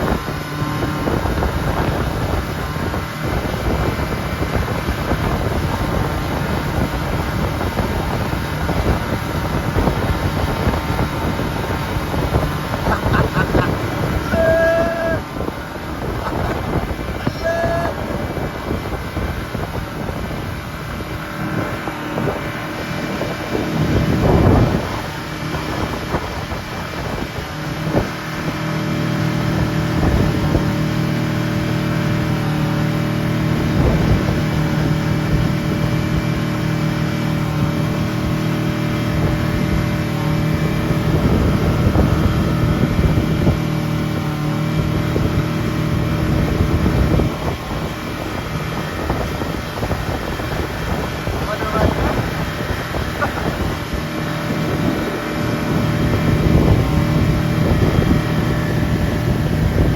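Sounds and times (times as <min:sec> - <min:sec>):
outboard motor running: 0:00.0 - 0:59.9
water noise: 0:00.0 - 0:59.9
wind buffeting microphone: 0:00.0 - 0:59.9.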